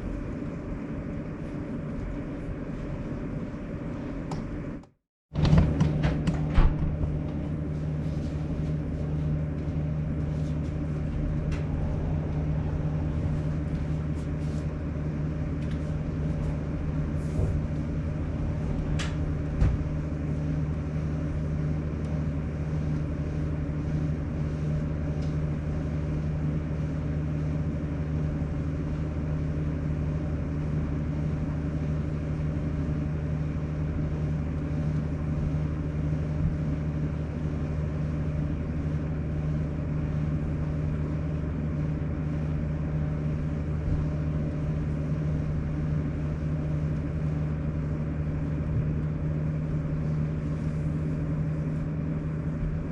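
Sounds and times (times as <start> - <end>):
air conditioner humming: 0.0 - 52.9.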